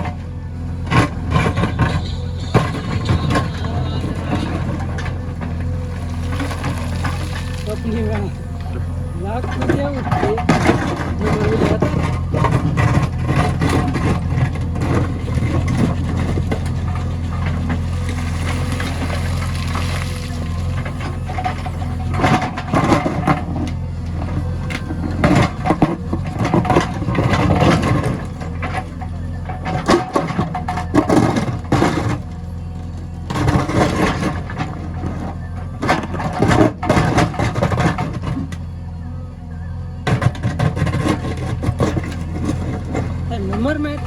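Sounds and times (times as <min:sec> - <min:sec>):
clatter and scraping: 0:00.0 - 0:39.0, 0:40.0 - 0:44.0
diesel engine running: 0:00.0 - 0:44.0.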